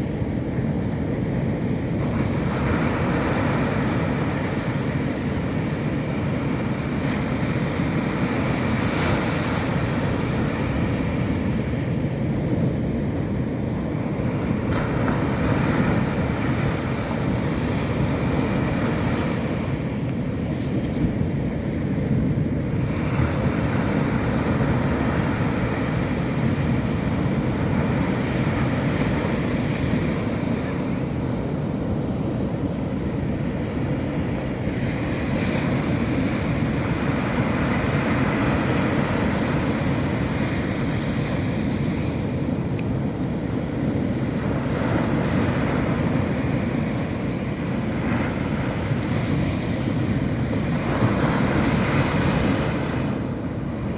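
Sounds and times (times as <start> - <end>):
surf breaking on a beach: 0.0 - 53.9
wind rumbling on microphone: 0.0 - 53.9.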